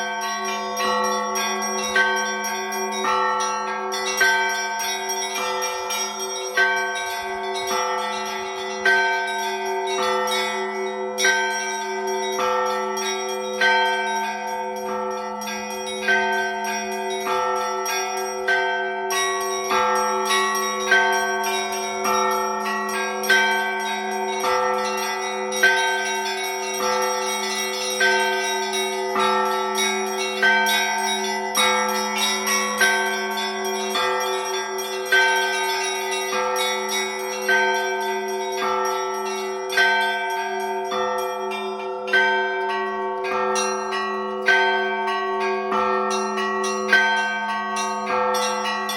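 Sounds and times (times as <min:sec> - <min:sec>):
heavy bell strokes: 0:00.0 - 0:48.9
large bells humming: 0:00.0 - 0:48.9
small bells chiming: 0:00.0 - 0:48.9.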